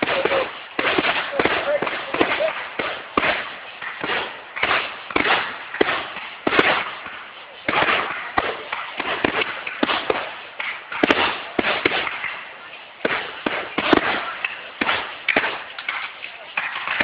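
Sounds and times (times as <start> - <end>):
fireworks shells bursting: 0.0 - 17.0.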